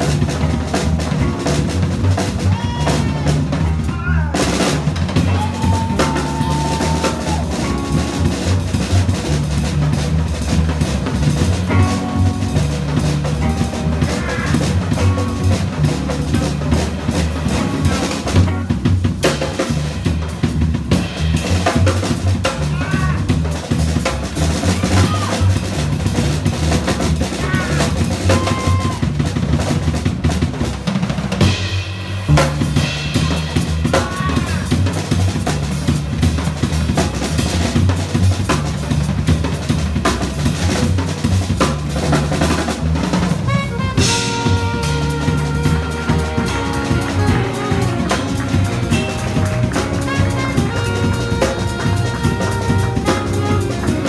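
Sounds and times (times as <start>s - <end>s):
plucked upright bass: 0.0s - 5.3s, 7.2s - 28.4s, 32.2s - 54.0s
drum kit with cymbals: 0.0s - 54.0s.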